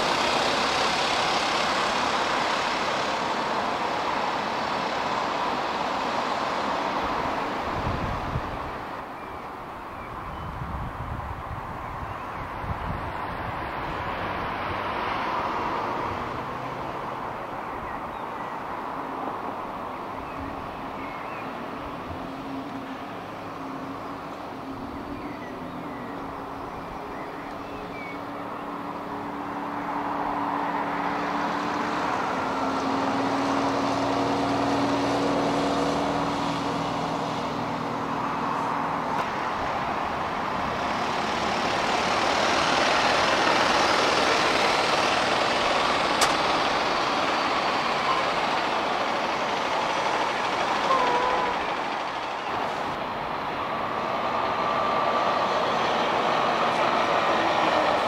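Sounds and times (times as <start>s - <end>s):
bus engines humming: 0.0s - 58.0s
buses passing: 0.0s - 58.0s.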